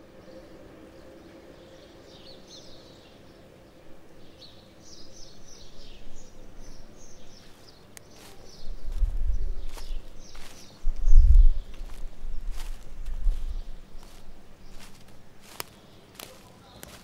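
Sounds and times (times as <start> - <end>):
faint steady hum: 0.0 - 17.0
small birds singing: 0.0 - 17.0.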